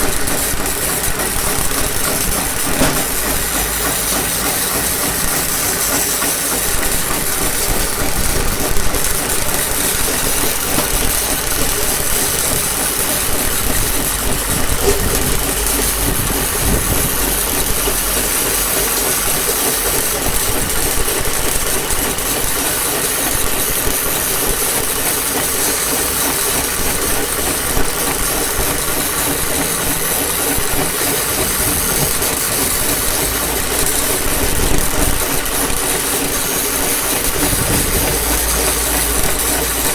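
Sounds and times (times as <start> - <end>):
machine hiss and drone: 0.0 - 39.9.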